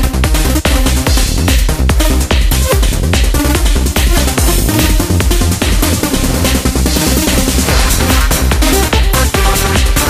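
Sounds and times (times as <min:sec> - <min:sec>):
electronic synthesizers: 0:00.0 - 0:10.0
kick drum and bass: 0:00.0 - 0:10.0.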